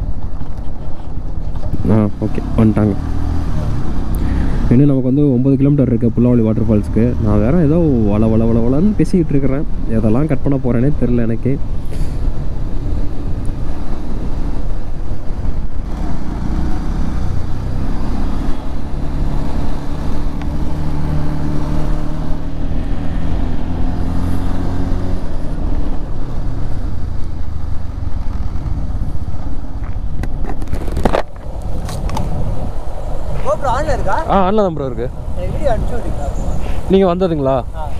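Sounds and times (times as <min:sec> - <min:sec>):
wind rumble on microphone: 0:00.0 - 0:37.9.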